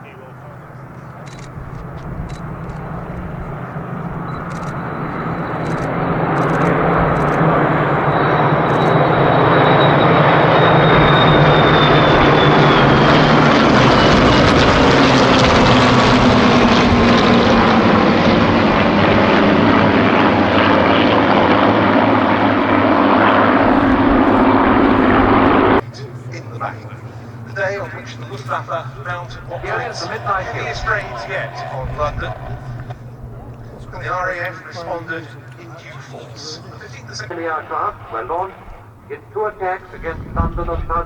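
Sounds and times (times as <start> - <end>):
propeller aircraft engines droning: 0.0 - 41.0.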